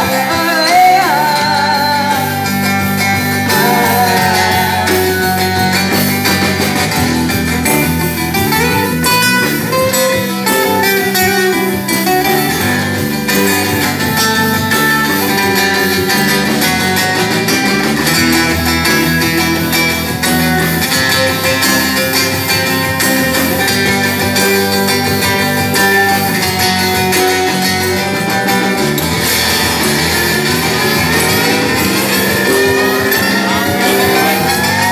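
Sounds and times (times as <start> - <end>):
live band with amplified guitar: 0.0 - 34.9.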